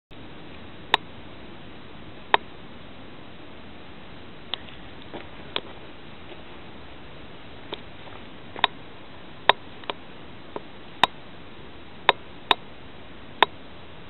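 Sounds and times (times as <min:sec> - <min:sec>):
steady hiss: 0:00.1 - 0:14.0.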